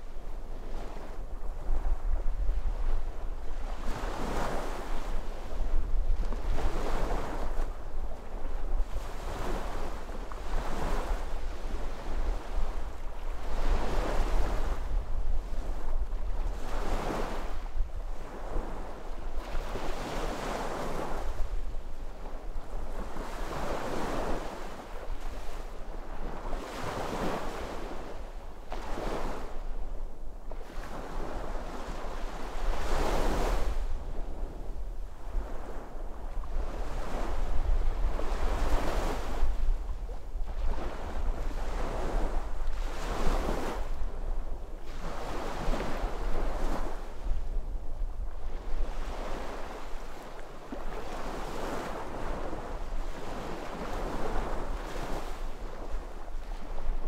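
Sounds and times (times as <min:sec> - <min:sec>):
sea waves breaking on shore: 0:00.2 - 0:29.8, 0:30.5 - 0:57.0.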